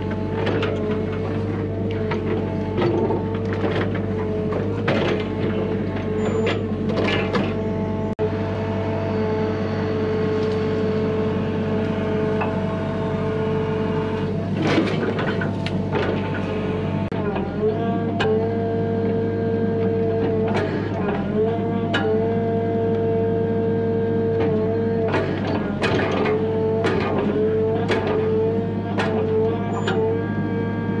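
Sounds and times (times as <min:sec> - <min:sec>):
excavator engine hum: 0:00.0 - 0:31.0.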